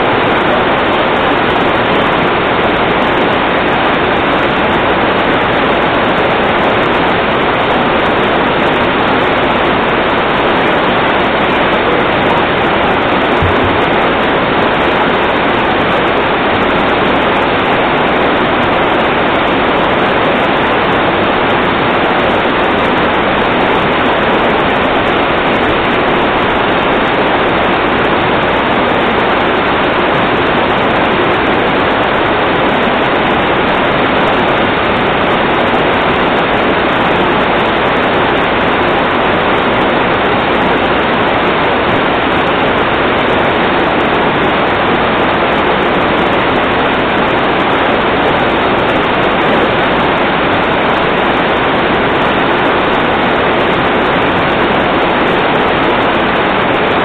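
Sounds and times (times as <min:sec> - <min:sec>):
loud rush of water: 0:00.0 - 0:57.0.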